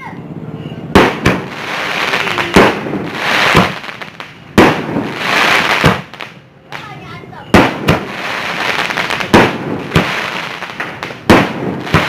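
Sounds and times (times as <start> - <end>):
fireworks crackling and hissing: 0.0 - 12.0
fireworks bangs: 0.6 - 12.0.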